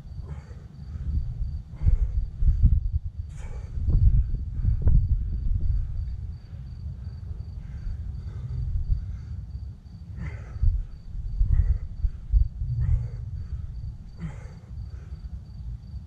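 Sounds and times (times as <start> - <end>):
crickets trilling: 0.0 - 16.0
wind rumbling on microphone: 0.0 - 16.0.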